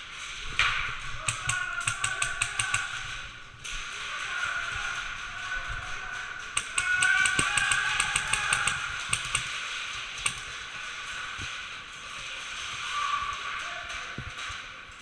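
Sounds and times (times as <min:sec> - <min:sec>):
airsoft guns firing: 0:00.0 - 0:12.9.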